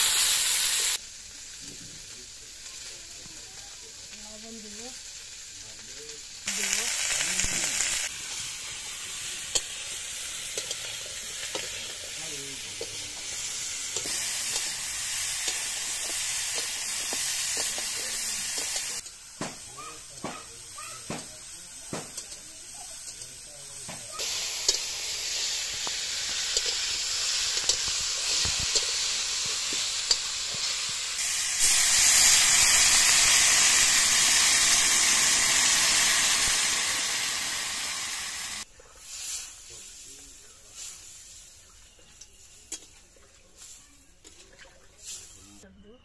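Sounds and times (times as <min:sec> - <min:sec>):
food sizzling in oil: 0:00.0 - 0:45.7
water hissing in a hot pan: 0:00.0 - 0:45.7.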